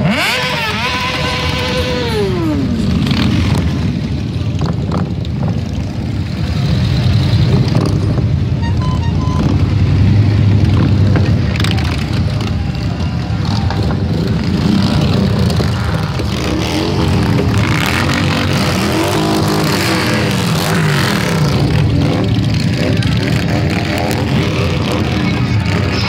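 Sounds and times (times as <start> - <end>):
motorcycles riding past: 0.0 - 26.0.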